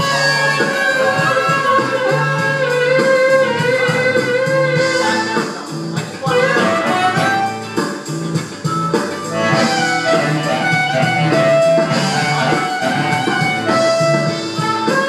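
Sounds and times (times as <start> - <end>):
harmonica playing held notes: 0.0 - 8.0, 8.7 - 15.0
repeating bass accompaniment: 0.0 - 15.0.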